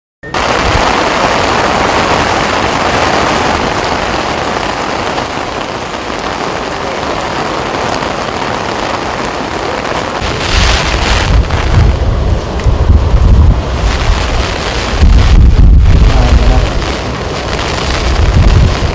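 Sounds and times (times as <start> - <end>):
water rushing down spillway: 0.3 - 18.9
wind buffeting microphone: 0.4 - 18.9.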